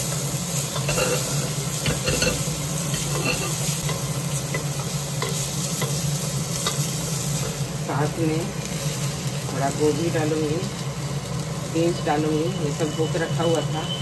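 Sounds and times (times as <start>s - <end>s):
onion sizzling in hot fat: 0.0s - 14.0s.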